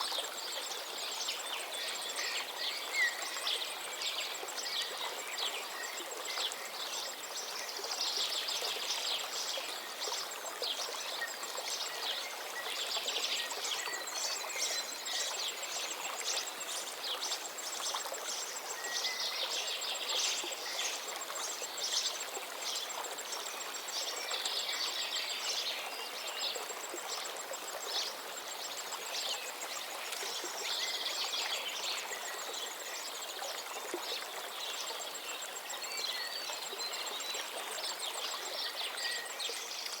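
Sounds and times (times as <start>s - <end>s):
stream flowing: 0.0s - 40.0s.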